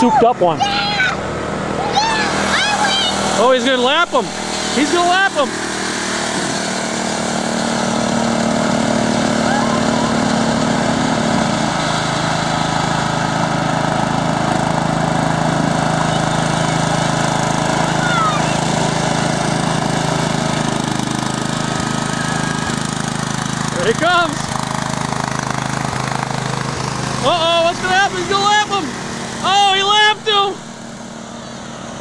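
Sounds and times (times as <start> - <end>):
lawn mower engines running: 0.0 - 32.0.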